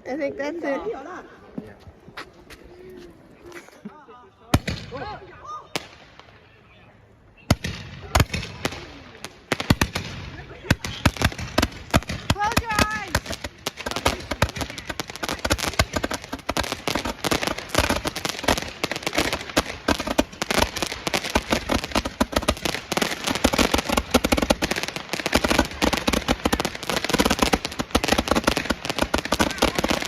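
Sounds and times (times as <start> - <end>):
fireworks and firecrackers banging: 4.5 - 6.5, 7.5 - 30.0.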